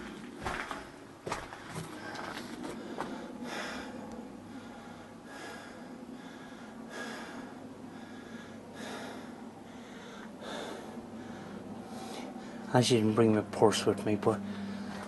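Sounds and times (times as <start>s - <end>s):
man breathing heavily: 0.7s - 12.8s, 14.4s - 15.0s.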